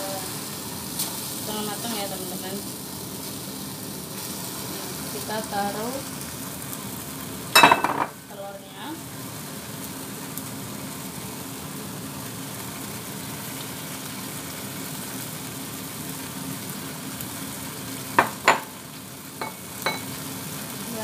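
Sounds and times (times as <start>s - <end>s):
tomatoes sizzling in a wok: 0.0s - 21.0s.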